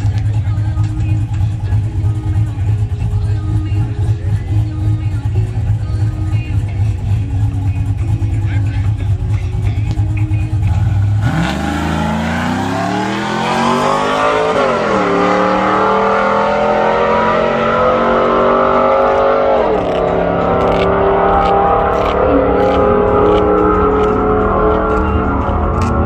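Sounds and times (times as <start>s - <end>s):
vehicle engine accelerating through gears: 0.0s - 26.0s.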